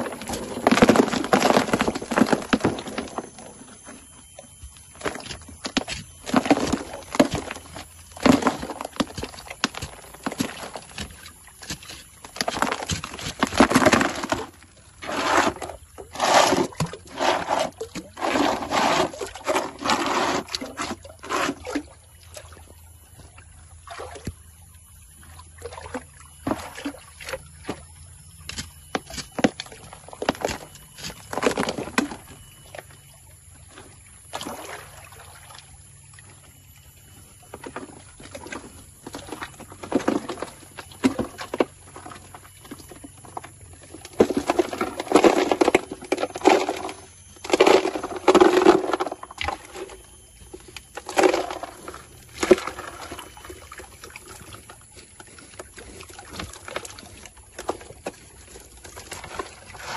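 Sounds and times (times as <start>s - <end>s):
water and gravel sloshing in a pan: 0.0s - 59.9s.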